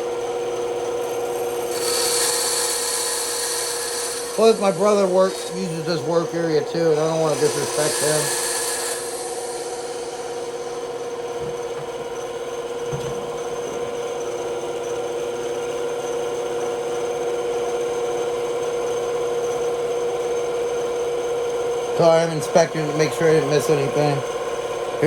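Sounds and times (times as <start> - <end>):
shop vacuum whining: 0.0 - 25.0.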